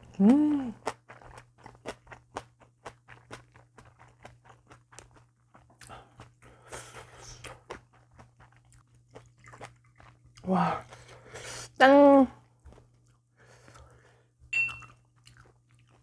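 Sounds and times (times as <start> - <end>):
person chewing food: 0.0 - 11.6, 12.4 - 16.0.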